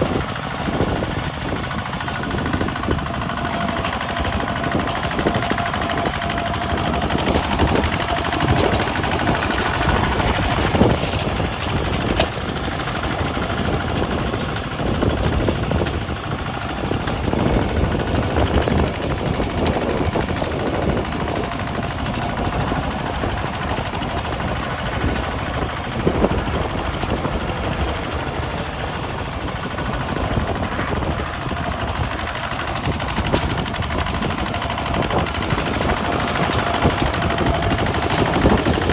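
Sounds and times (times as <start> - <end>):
diesel tractor engine knocking: 0.0 - 38.9.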